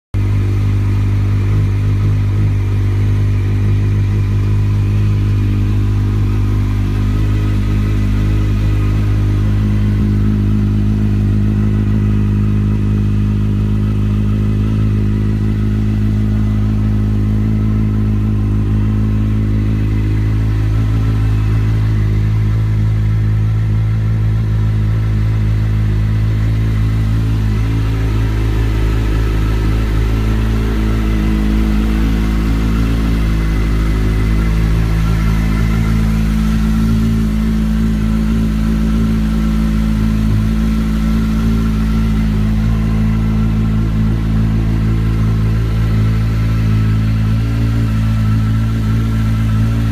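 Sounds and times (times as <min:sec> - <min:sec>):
motorcycle engine idling: 0:00.1 - 0:49.9.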